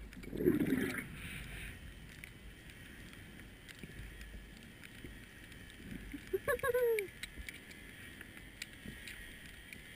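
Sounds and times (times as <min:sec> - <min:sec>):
faint clicks: 0:00.0 - 0:09.9
underwater water rush: 0:00.0 - 0:09.9.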